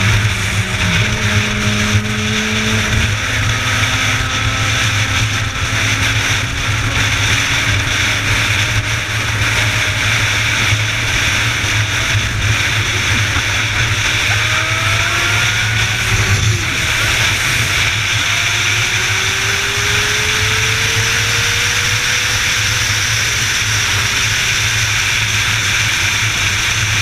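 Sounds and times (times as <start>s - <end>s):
vehicle driving on road: 0.0s - 27.0s.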